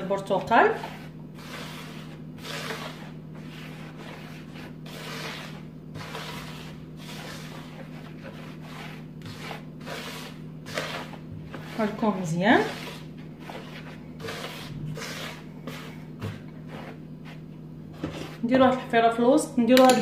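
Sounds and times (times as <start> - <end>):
hands swishing flour in bowl: 0.0 - 18.6.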